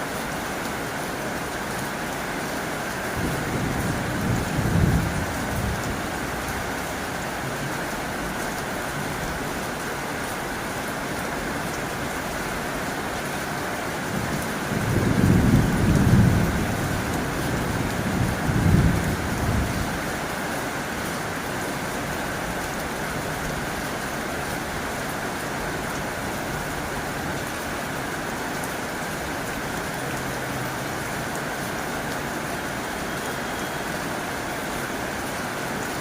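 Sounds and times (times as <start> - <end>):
heavy rain on a tin roof: 0.0 - 36.0.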